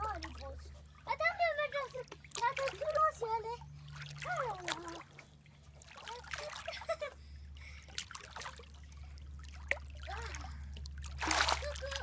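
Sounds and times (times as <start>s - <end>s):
pool water lapping: 0.0s - 12.0s
steady low hum: 0.0s - 12.0s.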